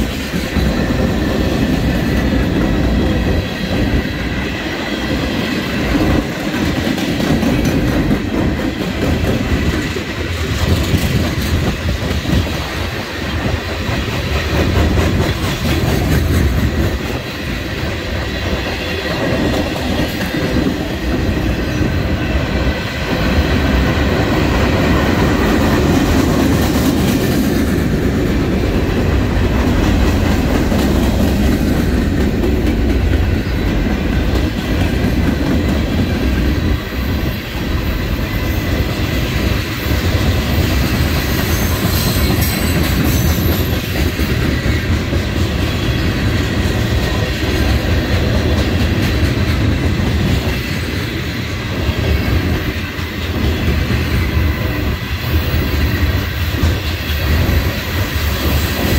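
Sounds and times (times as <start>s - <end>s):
freight cars rumbling on rails: 0.0s - 58.9s.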